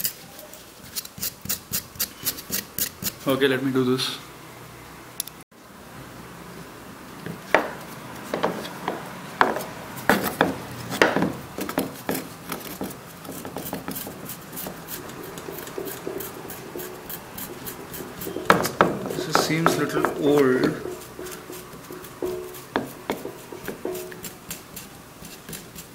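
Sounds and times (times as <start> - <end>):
knife scraping and cutting ginger: 0.0 - 3.3, 8.0 - 25.9.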